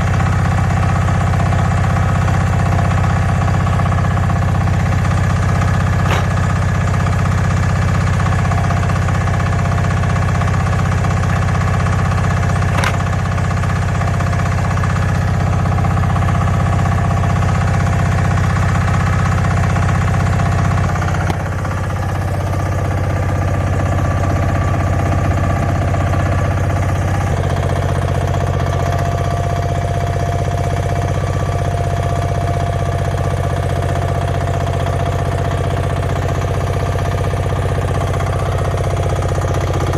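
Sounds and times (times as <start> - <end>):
sawmill engine running under load: 0.0 - 39.9.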